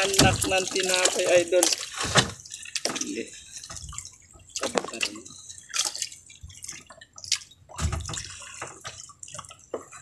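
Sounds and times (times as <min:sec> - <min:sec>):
seawater splashing and dripping: 0:00.0 - 0:10.0.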